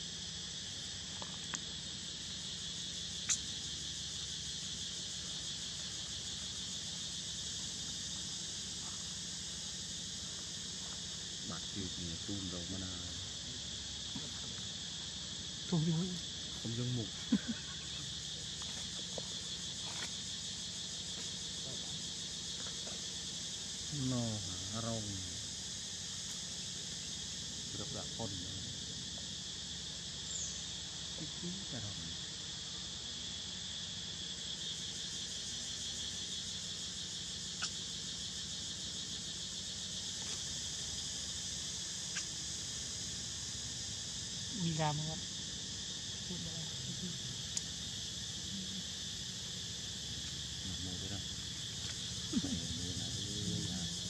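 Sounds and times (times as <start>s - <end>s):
crickets trilling: 0.0s - 54.0s
insects chirring: 0.0s - 54.0s.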